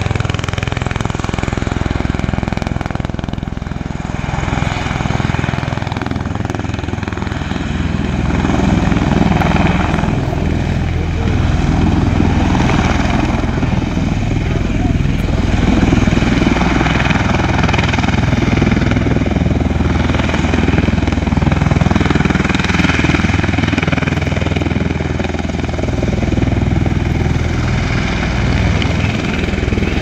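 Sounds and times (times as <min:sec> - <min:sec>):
tiltrotor aircraft rotor roar: 0:00.0 - 0:30.0.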